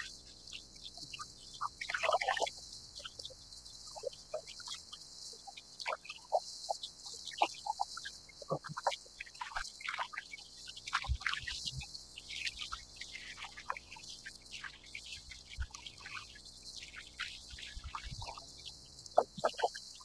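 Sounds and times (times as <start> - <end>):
cicadas chorus: 0.0 - 20.0.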